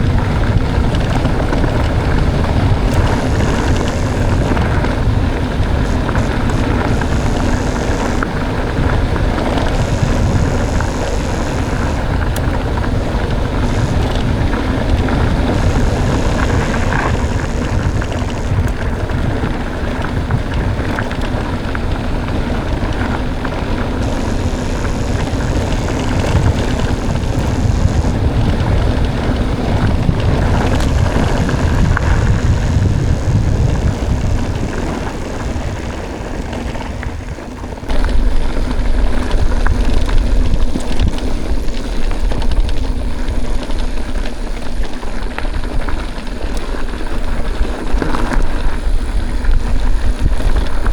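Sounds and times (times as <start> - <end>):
tyres rolling over dirt: 0.0 - 50.9
wind buffeting microphone: 0.0 - 50.9.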